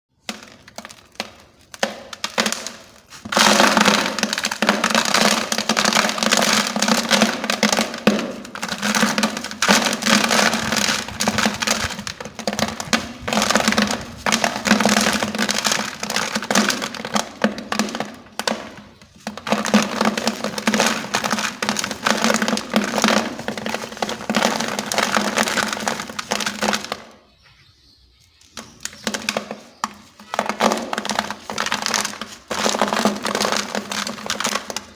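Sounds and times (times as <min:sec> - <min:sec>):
sand-cement blocks crunching: 0:00.1 - 0:27.0, 0:28.6 - 0:34.9.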